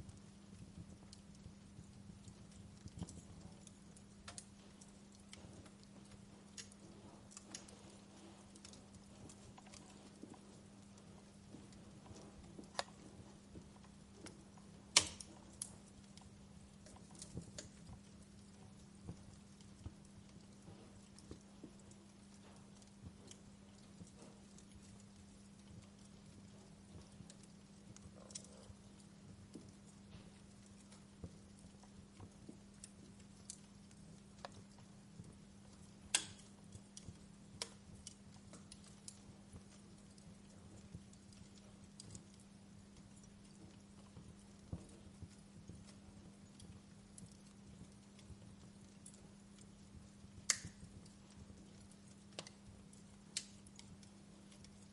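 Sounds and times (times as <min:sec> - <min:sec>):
faint steady hum: 0:00.0 - 0:54.9
wood fire crackling: 0:00.0 - 0:54.9.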